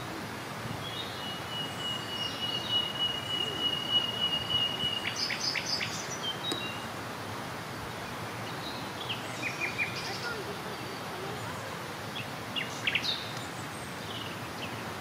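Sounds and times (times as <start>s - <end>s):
steady outdoor hiss: 0.0s - 15.0s
birds calling: 0.8s - 7.2s, 7.8s - 15.0s.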